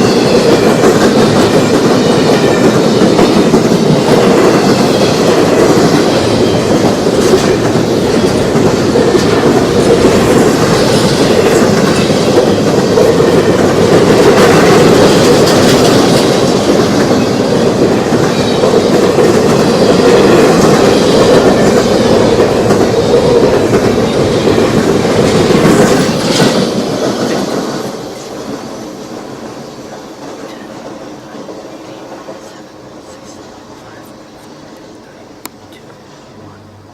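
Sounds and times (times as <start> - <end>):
train rumble: 0.0 - 36.9
train wheels clacking on rails: 0.0 - 36.9.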